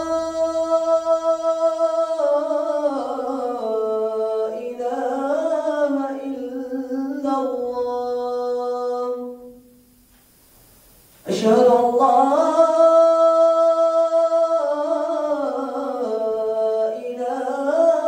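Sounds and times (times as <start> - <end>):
man chanting call to prayer: 0.0 - 9.6, 11.2 - 18.0.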